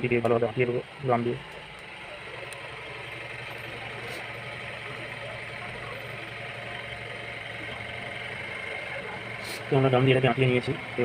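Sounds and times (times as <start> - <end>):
high steady whine: 0.0 - 11.0
mechanical hum with low drone: 0.0 - 11.0.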